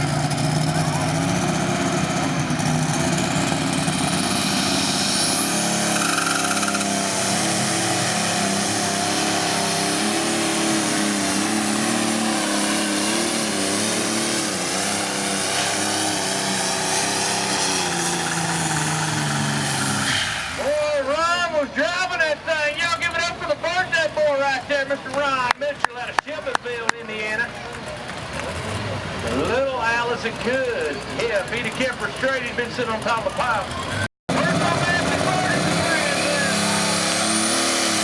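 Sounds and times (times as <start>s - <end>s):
tractor engine under heavy load: 0.0s - 38.0s.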